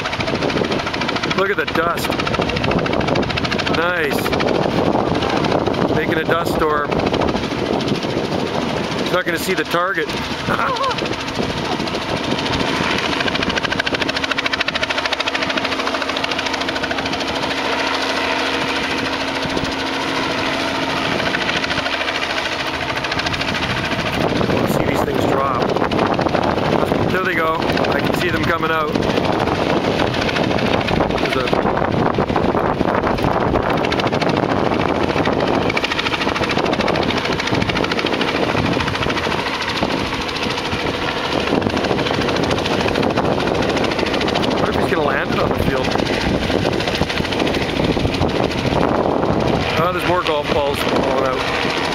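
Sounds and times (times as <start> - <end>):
helicopter engine hum: 0.0 - 51.9
helicopter rotor chopping: 0.0 - 51.9.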